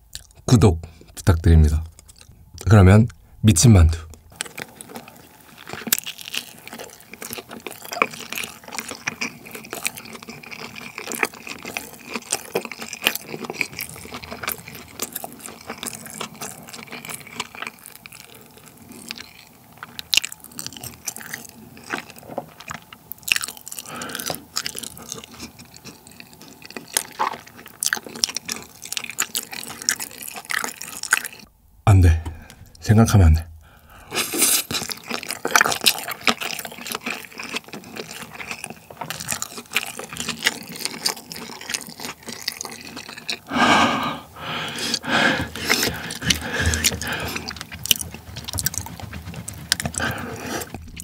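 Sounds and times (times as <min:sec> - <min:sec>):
chewing with crisp crackles: 0:00.0 - 0:03.3, 0:04.0 - 0:31.5, 0:33.6 - 0:51.0.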